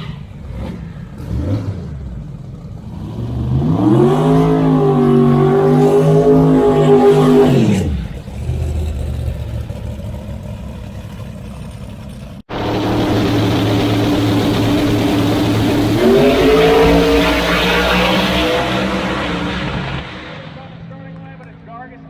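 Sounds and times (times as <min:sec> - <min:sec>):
drag racing car engines: 0:00.0 - 0:22.0.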